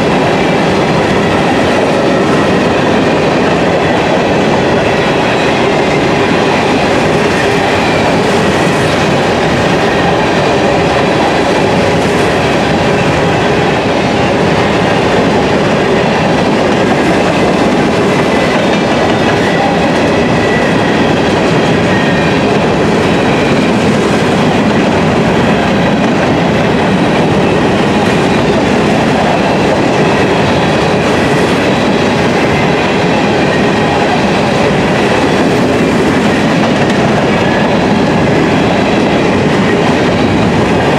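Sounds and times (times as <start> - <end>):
clickety-clack of rail joints: 0.0 - 40.9
train wheels on rails: 0.0 - 40.9.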